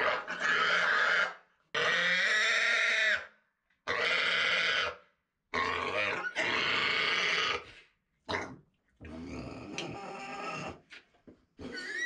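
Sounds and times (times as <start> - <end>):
pig screaming: 0.0 - 3.3, 3.9 - 7.7, 8.3 - 10.8, 11.6 - 12.0.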